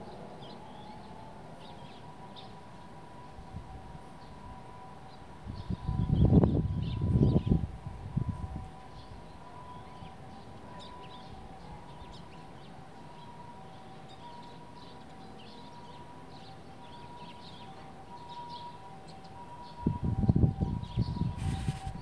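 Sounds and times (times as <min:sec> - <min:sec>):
sparrows chirping: 0:00.0 - 0:03.3, 0:04.2 - 0:07.6, 0:08.8 - 0:20.0, 0:20.6 - 0:22.0.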